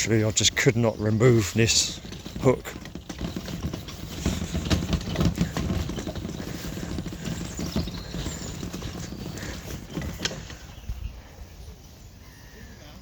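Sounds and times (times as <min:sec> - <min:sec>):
footsteps on a path: 0:00.0 - 0:11.3.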